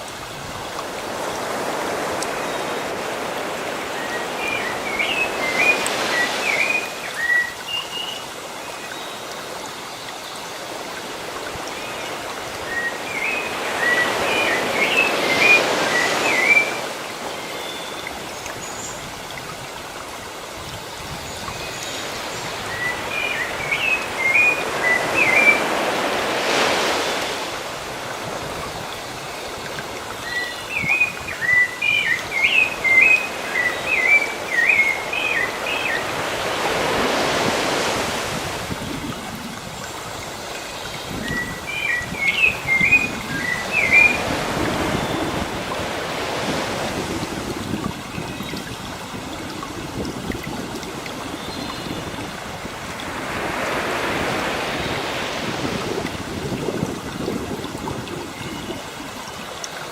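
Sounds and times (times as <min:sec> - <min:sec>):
sea waves washing in: 0:00.0 - 0:59.9.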